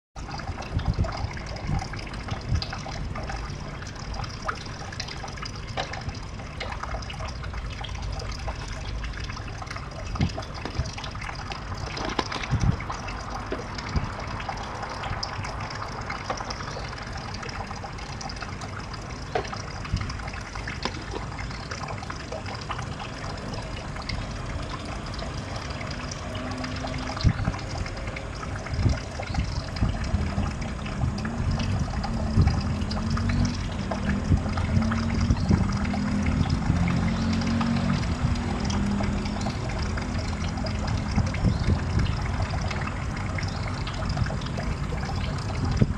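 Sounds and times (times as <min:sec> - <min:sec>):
water trickling into pond: 0:00.2 - 0:45.9.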